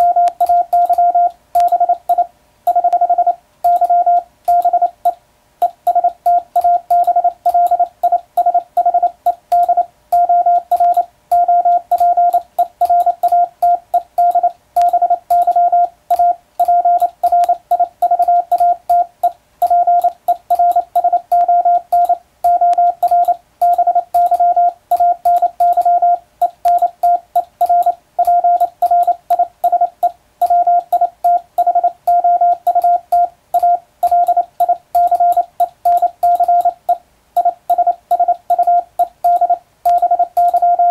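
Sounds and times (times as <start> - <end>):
morse code beeps: 0.0 - 40.9
faint keying clicks: 3.7 - 40.8.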